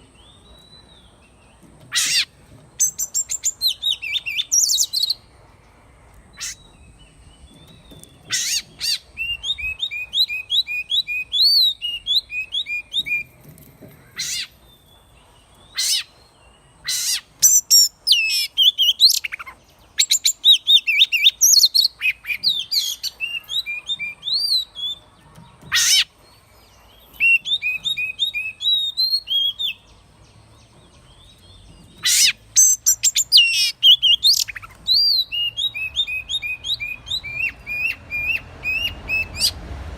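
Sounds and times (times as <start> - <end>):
songbird singing whistles: 0.0 - 5.3, 6.3 - 13.4, 16.8 - 26.1, 26.9 - 29.9, 31.1 - 39.6.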